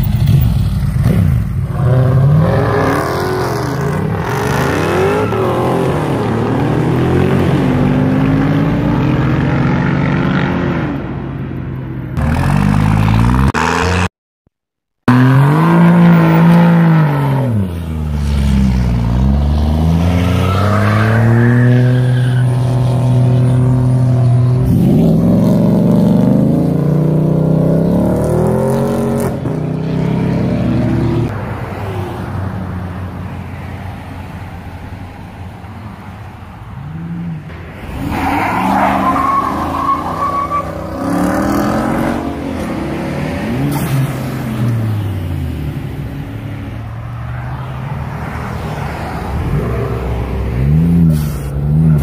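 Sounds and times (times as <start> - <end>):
car engines revving: 0.0 - 14.1, 15.0 - 52.0.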